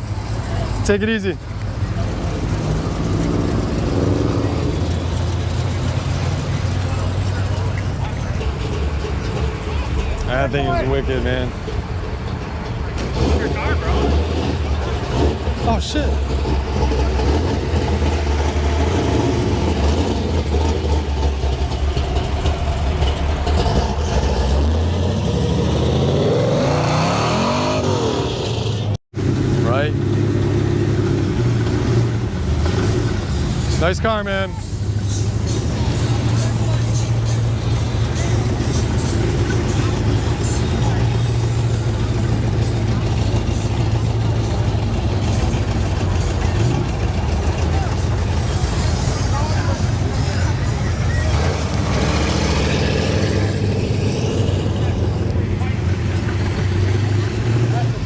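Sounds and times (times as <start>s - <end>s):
car engine idling: 0.0s - 27.6s, 28.4s - 58.0s.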